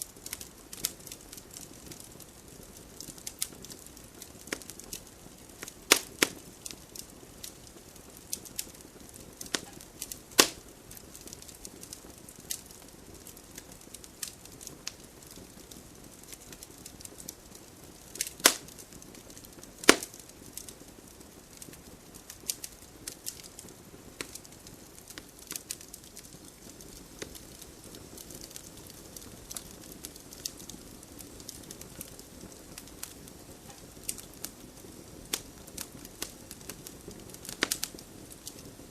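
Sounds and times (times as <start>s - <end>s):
campfire crackling and hissing: 0.0s - 38.9s
sharp fire pops: 0.0s - 38.9s.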